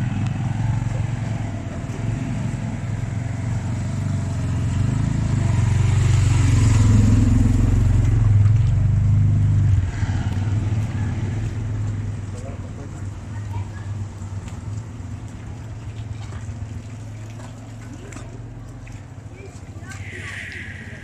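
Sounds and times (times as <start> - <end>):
motor vehicle engine rumbling: 0.0 - 21.0.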